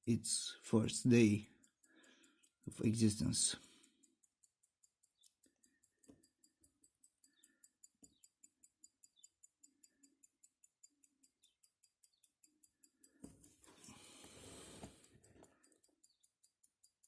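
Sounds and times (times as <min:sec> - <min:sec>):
pocket watch ticking: 0:00.0 - 0:17.0.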